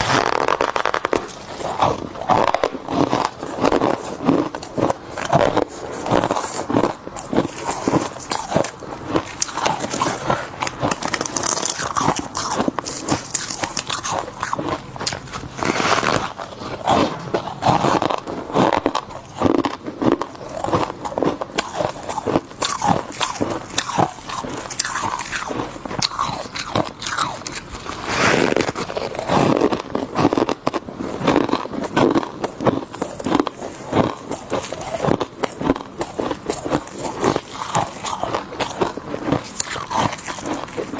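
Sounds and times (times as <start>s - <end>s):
frost chunks being chewed: 0.0s - 40.9s.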